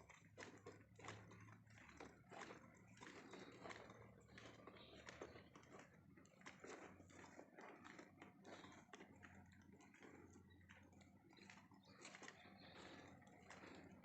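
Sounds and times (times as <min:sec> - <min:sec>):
faint footsteps: 0:00.0 - 0:14.0.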